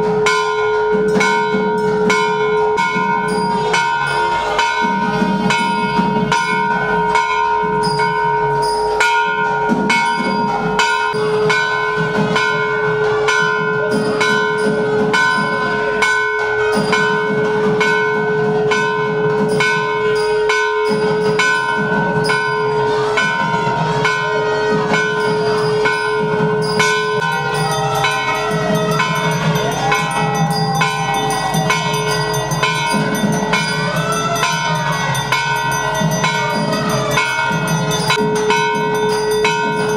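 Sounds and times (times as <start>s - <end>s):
temple bells clanging: 0.0s - 39.9s.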